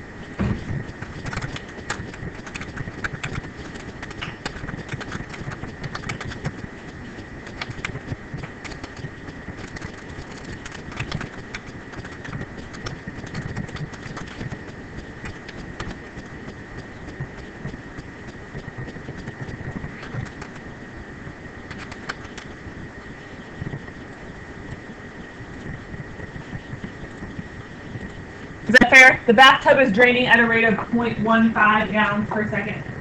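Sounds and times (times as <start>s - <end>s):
high-pitched hum: 0.0s - 33.0s
low room noise: 0.0s - 33.0s.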